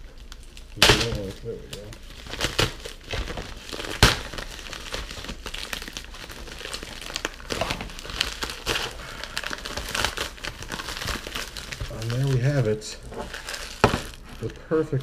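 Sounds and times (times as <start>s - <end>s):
plastic mailer crinkling: 0.0s - 15.0s.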